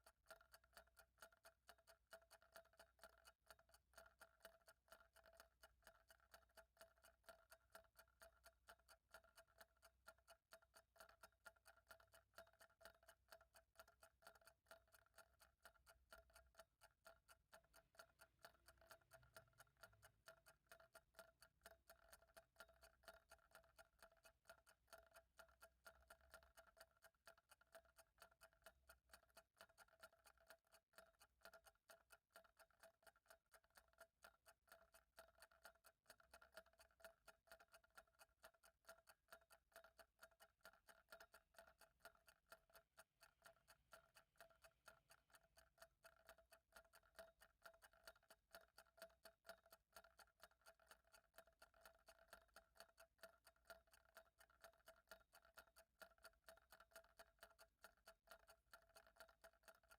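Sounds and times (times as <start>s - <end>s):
clock ticking: 0.0s - 59.6s.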